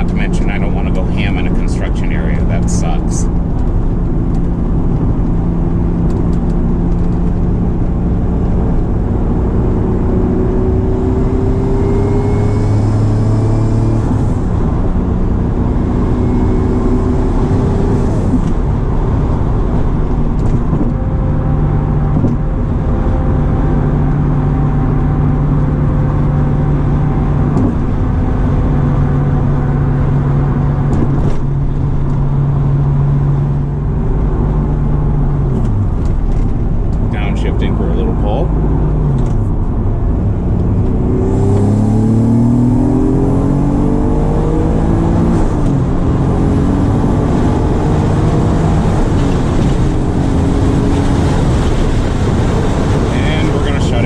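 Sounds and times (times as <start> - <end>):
car engine under light throttle: 0.0 - 54.0
road noise: 0.0 - 54.0.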